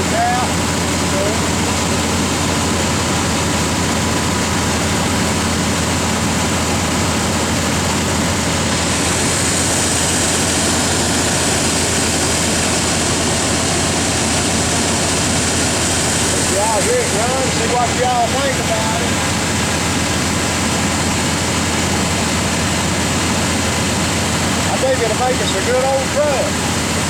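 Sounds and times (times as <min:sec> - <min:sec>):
pickup engine idling: 0:00.0 - 0:27.0.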